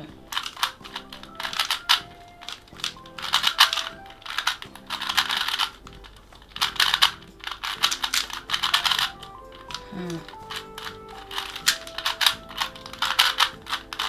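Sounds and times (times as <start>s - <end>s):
puzzle cube clicking and rattling: 0.0s - 14.0s.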